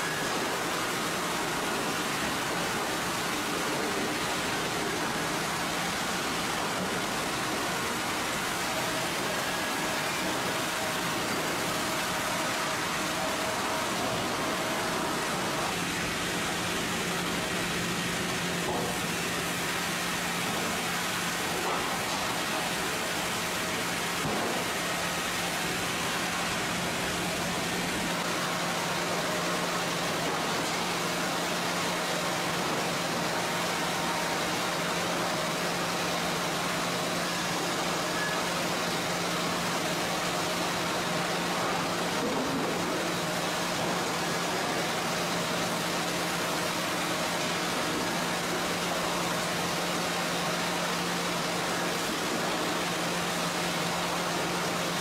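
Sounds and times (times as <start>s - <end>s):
conveyors running: 0.0s - 55.0s.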